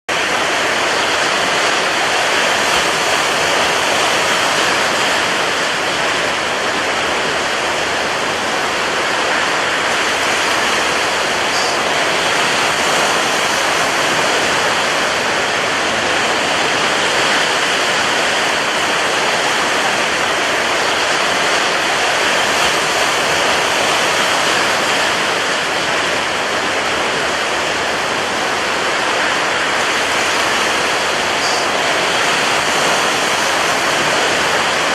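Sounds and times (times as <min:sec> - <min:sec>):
rough surf: 0:00.1 - 0:34.9
strong wind: 0:00.1 - 0:34.9.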